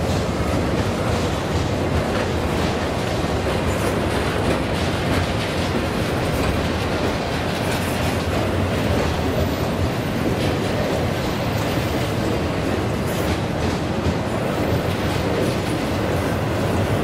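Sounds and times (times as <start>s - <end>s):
freight train rolling past: 0.0s - 17.0s
train wheels clacking over crossing: 0.0s - 17.0s.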